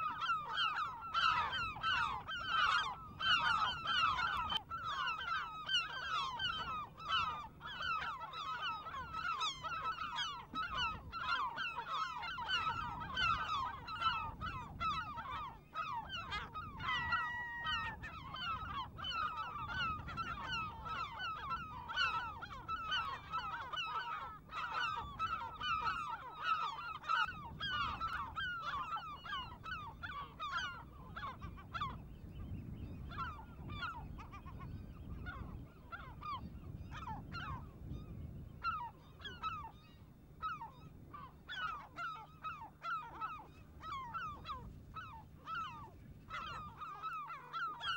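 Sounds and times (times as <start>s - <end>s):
waterbird colony harsh calls: 0.0s - 47.9s.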